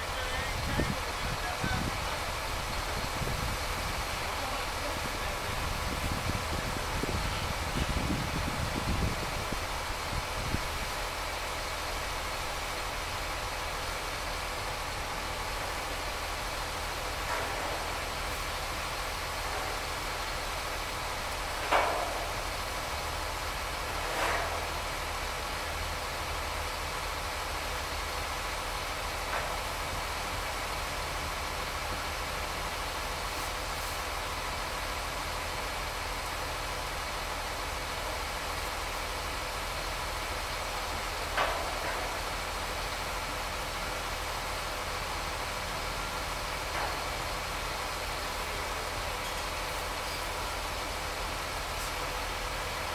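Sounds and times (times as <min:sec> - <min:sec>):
heavy machinery engine running: 0:00.0 - 0:52.9.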